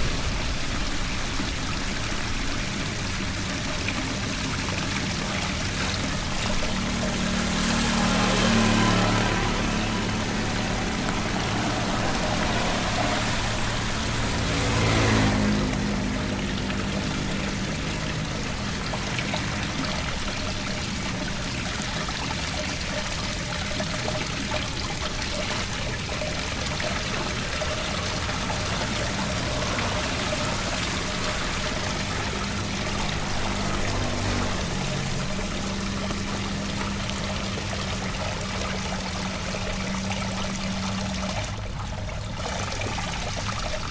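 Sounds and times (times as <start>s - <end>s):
floodwater pouring into storm drain: 0.0s - 43.9s.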